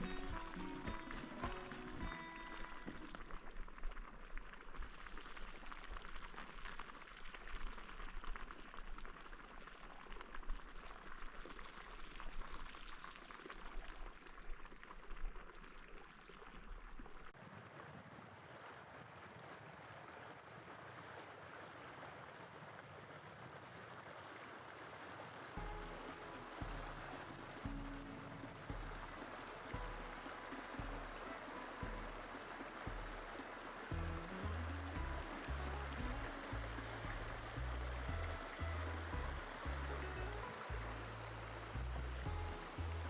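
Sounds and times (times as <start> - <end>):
rushing bubbling water: 0.0 - 43.0.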